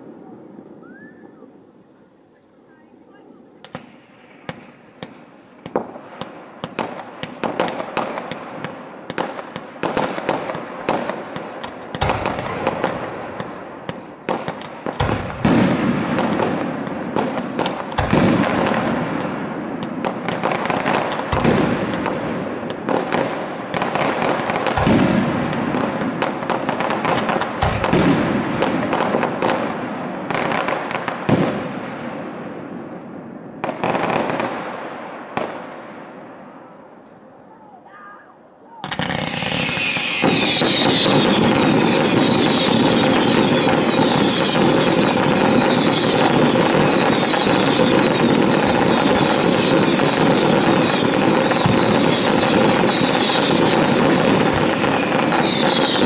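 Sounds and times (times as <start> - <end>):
fireworks crackling and popping: 2.7 - 36.0, 38.7 - 56.0
heavy firework booms: 3.7 - 35.9, 38.8 - 56.0.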